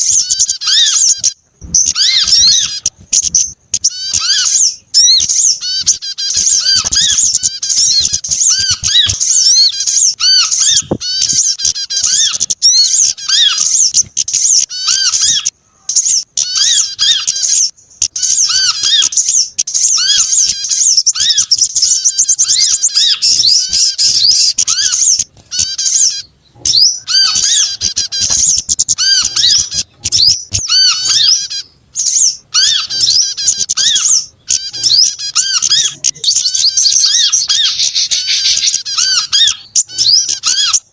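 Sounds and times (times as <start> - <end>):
songbirds chirping and twittering: 0.0 - 40.9.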